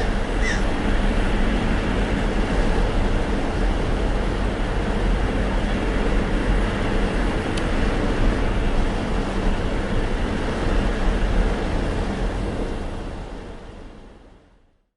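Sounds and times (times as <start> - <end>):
low hum: 0.0 - 13.9
rumbling mechanical noise: 0.0 - 14.3.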